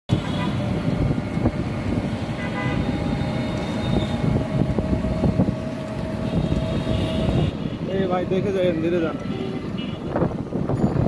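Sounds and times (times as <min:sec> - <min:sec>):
rickshaw rumbling on street: 0:00.1 - 0:11.0
traffic noise: 0:00.1 - 0:11.0.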